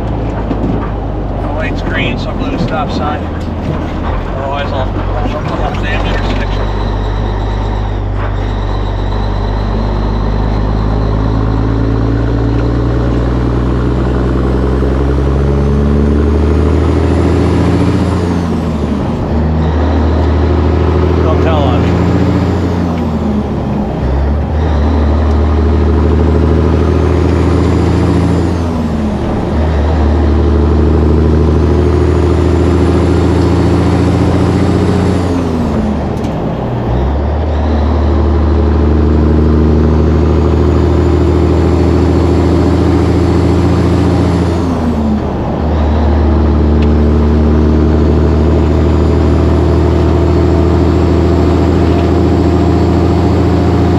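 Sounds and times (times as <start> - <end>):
diesel truck engine accelerating: 0.0 - 53.9.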